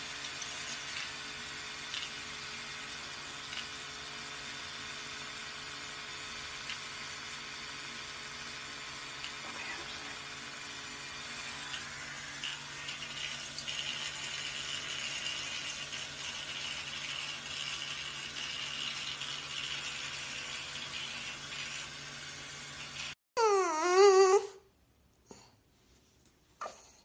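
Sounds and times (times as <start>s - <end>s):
electric toothbrush buzzing: 0.0s - 24.3s.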